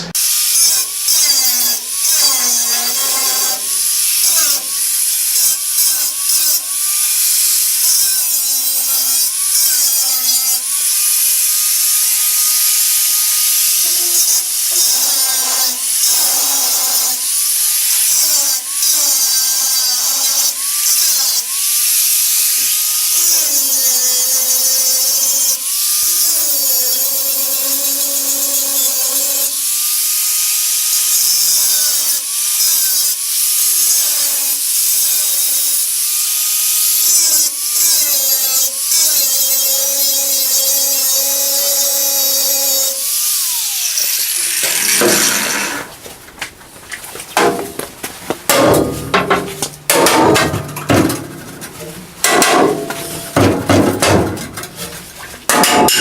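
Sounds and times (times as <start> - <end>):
power tool cutting steel: 0.0 - 46.0, 48.5 - 56.0.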